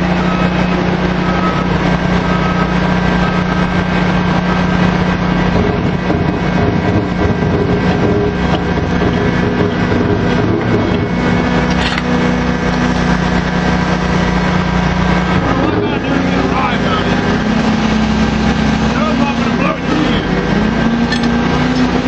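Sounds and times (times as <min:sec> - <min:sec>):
drilling rig engine drone: 0:00.0 - 0:22.0.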